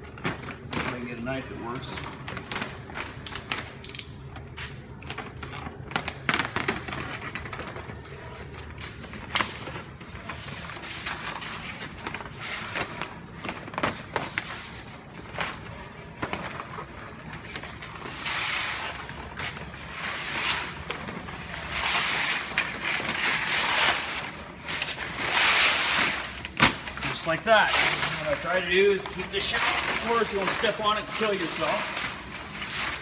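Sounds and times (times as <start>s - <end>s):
plastic film rustling: 0.0s - 33.0s.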